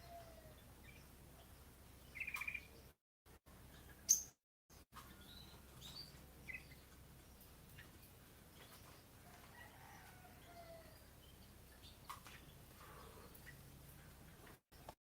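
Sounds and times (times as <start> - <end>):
small birds chirping: 0.0 - 3.0, 3.6 - 15.0.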